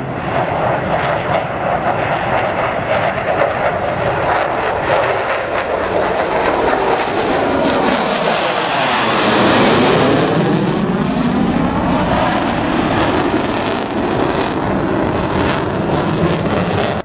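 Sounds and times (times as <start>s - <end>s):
fighter jet passing overhead: 0.0s - 17.0s.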